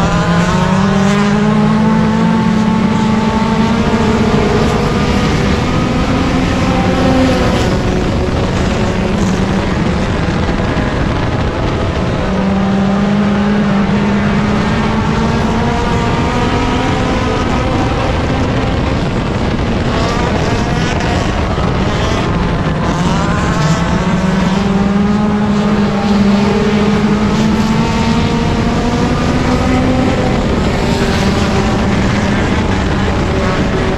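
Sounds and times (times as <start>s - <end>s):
race car engine running hard: 0.0s - 33.9s.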